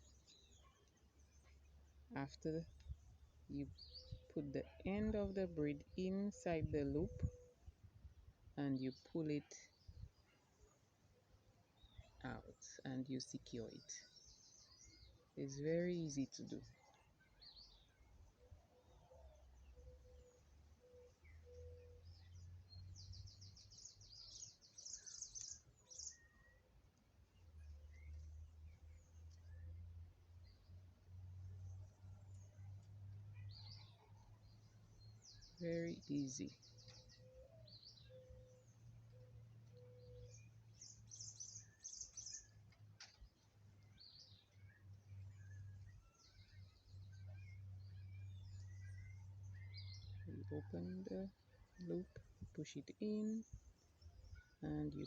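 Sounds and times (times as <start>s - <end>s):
faint bird chirping: 0.0s - 55.0s.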